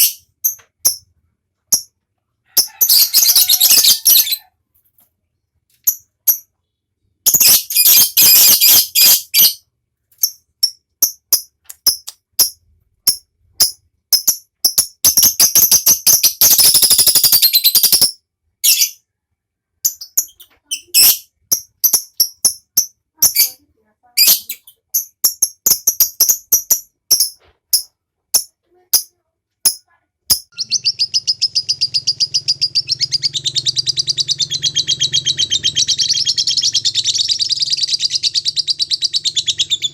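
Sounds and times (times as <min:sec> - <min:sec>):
lovebird chirps and rattling trills: 0:00.0 - 0:01.1, 0:01.7 - 0:05.0, 0:05.7 - 0:06.6, 0:07.2 - 0:19.0, 0:19.8 - 0:39.9.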